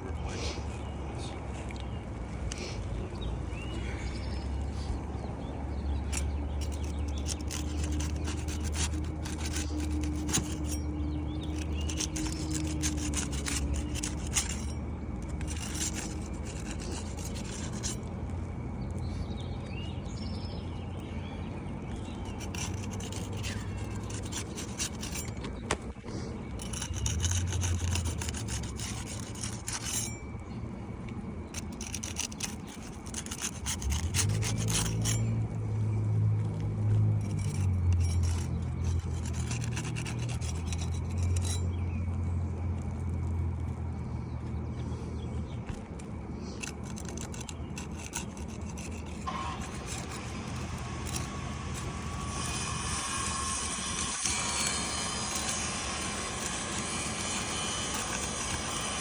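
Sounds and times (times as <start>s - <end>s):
low hum: 0.0s - 59.0s
shingles scraping and rasping: 4.3s - 20.4s, 21.8s - 59.0s.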